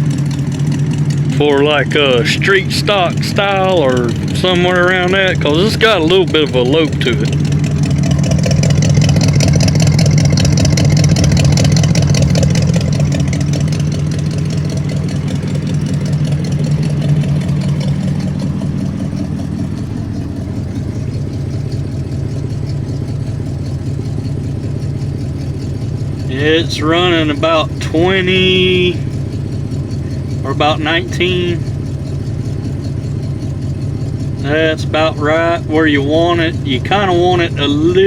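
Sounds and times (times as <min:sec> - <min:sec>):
vee eight engine idling with lope: 0:00.0 - 0:38.0.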